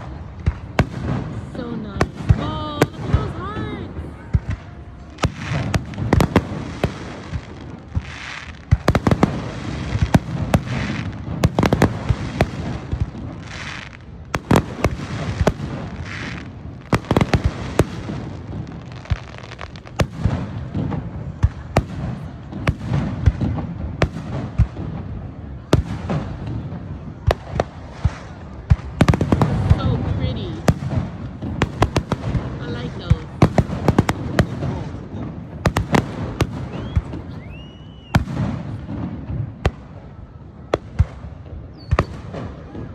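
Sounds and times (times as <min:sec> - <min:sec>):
hissing crackles: 0:00.0 - 0:40.1.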